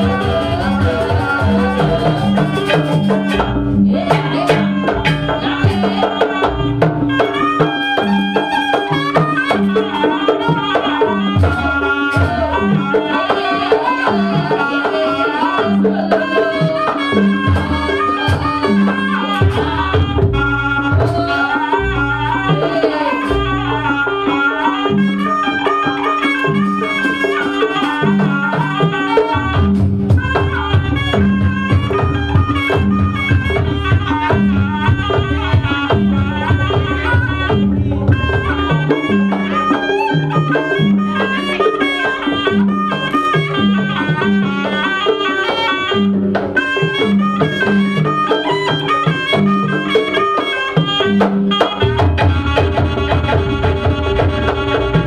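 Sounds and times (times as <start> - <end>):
bending melody: 0.0 - 55.0
drums beating: 0.0 - 55.0.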